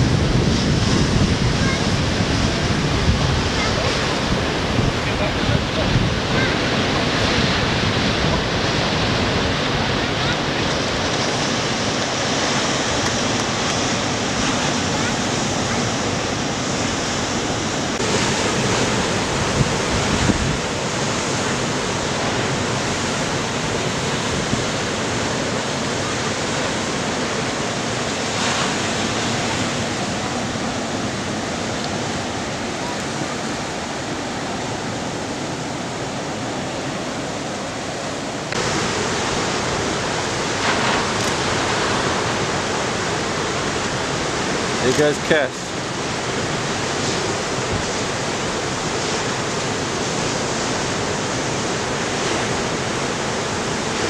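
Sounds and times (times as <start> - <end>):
surf breaking on shore: 0.0 - 54.0.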